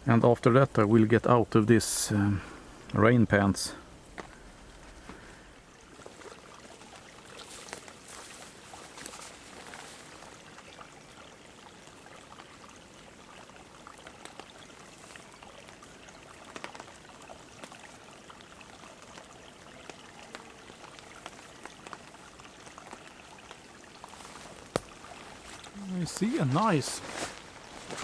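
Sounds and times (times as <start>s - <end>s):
forest stream trickling: 0.0s - 28.0s
light rain dripping: 0.0s - 28.0s.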